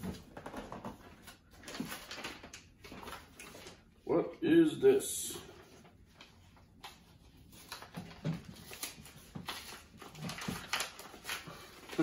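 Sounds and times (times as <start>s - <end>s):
cardboard packaging rustling: 0.0s - 4.0s, 5.6s - 12.0s.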